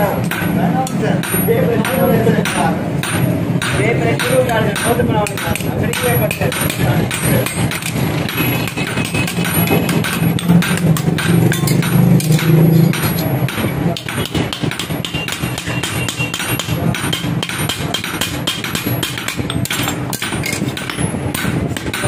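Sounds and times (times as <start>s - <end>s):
hammer striking steel on anvil: 0.1s - 22.0s.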